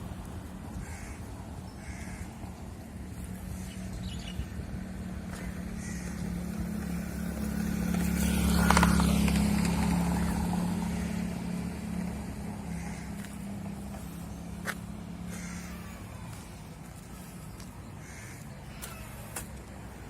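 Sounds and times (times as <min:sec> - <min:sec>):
vehicle engine passing by: 0:02.8 - 0:20.0.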